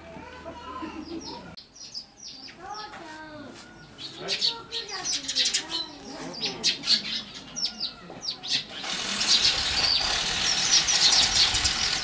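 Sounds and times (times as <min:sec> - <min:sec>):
small birds chirping: 0:01.0 - 0:12.0.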